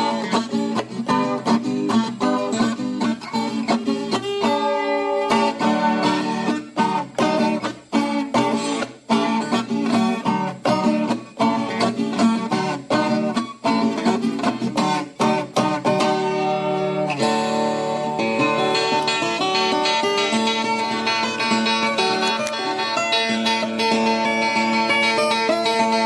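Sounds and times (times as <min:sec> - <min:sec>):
guitar plucked and strummed: 0:00.0 - 0:26.0.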